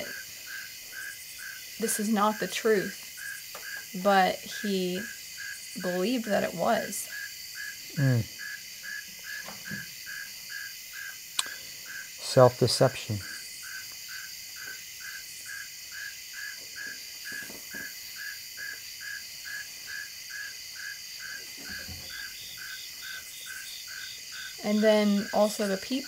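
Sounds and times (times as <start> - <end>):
night insects chirping: 0.0 - 26.0.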